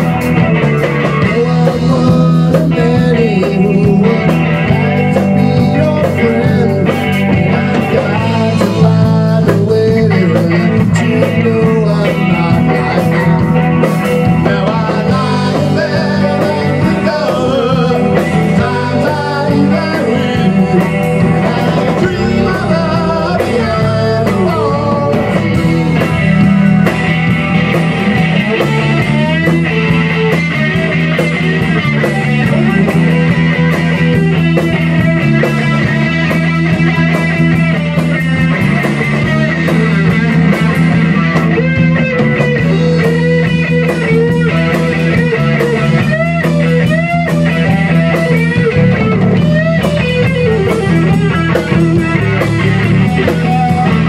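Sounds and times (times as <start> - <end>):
drum kit: 0.0 - 54.0
electric bass: 0.0 - 54.0
electric guitar lead line: 0.0 - 54.0.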